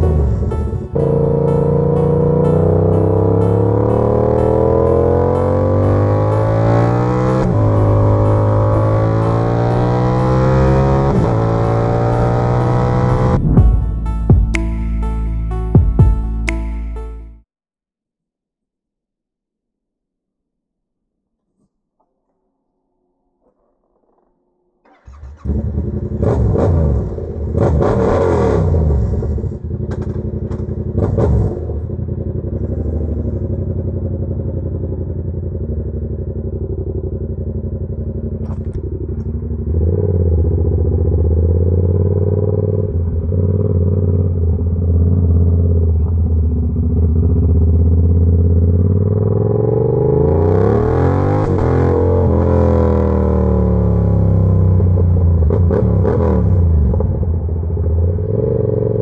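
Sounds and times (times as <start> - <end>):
motorcycle engine starting and revving: 0.0 - 13.8, 24.8 - 59.0.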